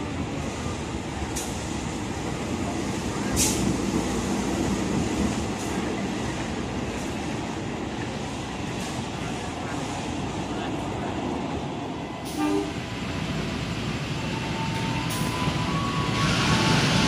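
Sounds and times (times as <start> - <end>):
locomotive engine rumbling: 0.0 - 17.0.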